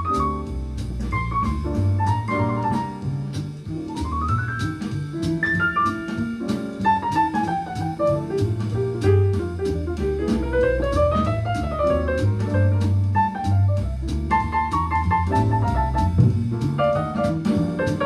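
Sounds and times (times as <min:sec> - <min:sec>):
jazz piano: 0:00.0 - 0:18.0
plucked double bass: 0:00.0 - 0:18.0.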